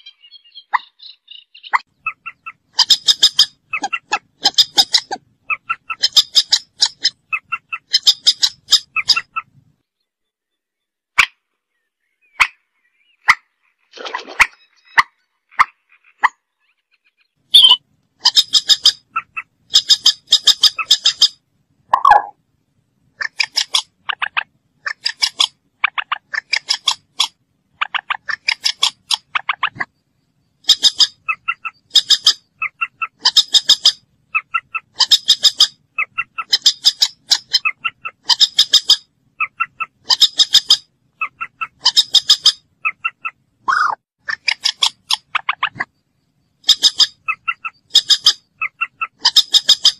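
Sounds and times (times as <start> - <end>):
moorhen calling: 0.0 - 22.4, 23.0 - 49.9.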